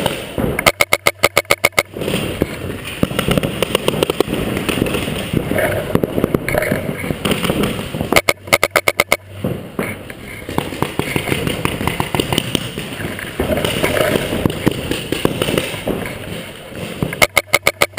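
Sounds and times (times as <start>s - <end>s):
clatter: 0.0s - 17.9s
paintball markers firing: 0.0s - 17.9s.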